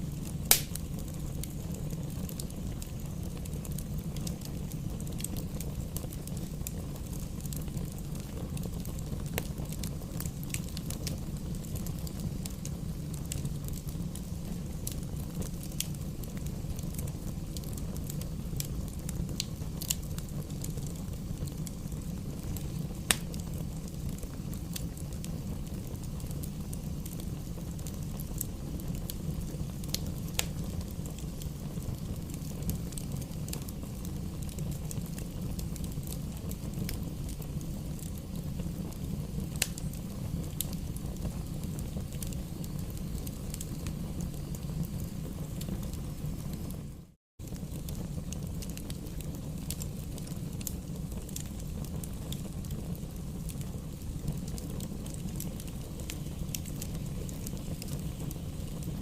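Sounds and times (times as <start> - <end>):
fire crackles and pops: 0.0 - 59.0.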